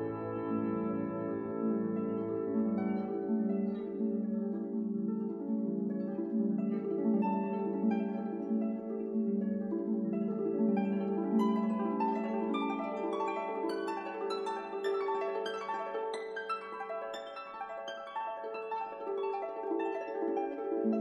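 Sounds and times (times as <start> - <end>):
plucked instrumental music: 0.0 - 21.0.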